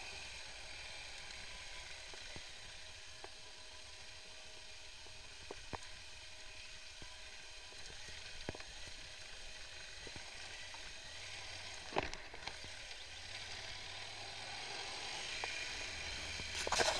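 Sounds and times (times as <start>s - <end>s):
motorcycle riding on gravel: 0.0s - 16.9s.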